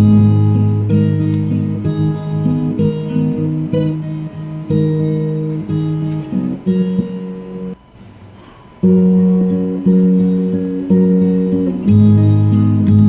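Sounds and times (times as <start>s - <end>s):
acoustic guitar playing chords: 0.0s - 13.0s.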